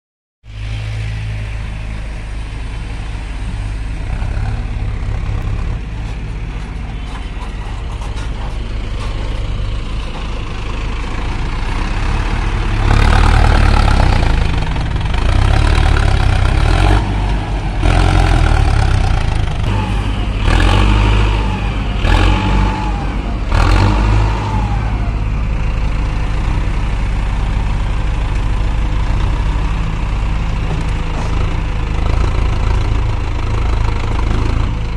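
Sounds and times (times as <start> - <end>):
heavy diesel engine revving: 0.5 - 34.9.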